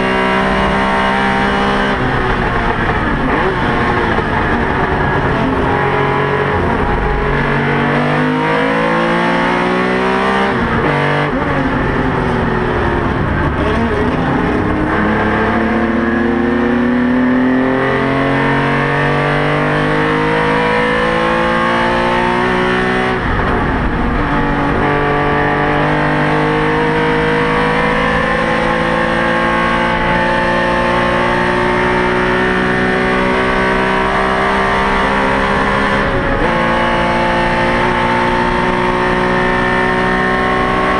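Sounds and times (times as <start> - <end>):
racing engine at full throttle: 0.0 - 40.9.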